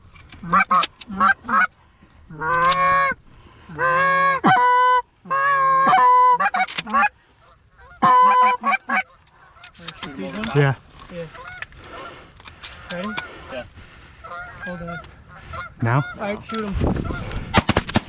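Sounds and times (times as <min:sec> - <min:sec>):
geese honking: 0:00.3 - 0:17.4.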